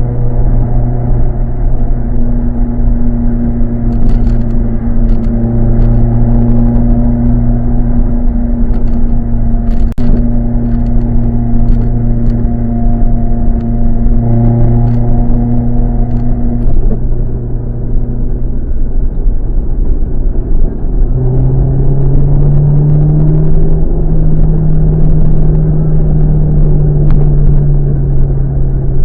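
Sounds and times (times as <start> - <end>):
car exhaust droning: 0.0 - 29.0.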